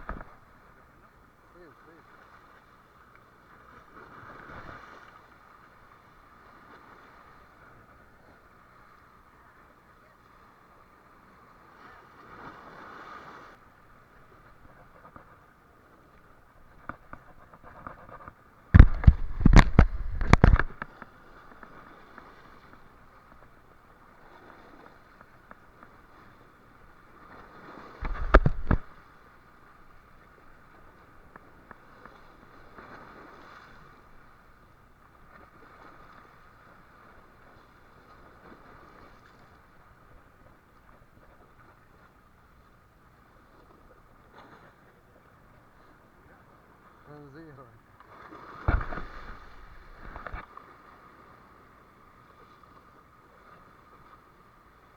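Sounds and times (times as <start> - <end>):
boat at sea background: 0.0 - 54.9.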